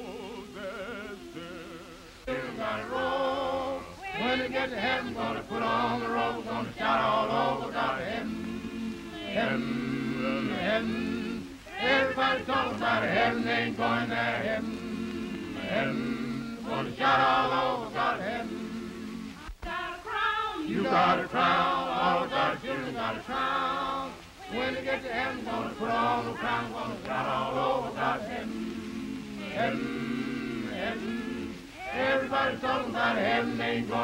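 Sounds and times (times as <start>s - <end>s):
congregation singing in chorus: 0.0s - 34.0s.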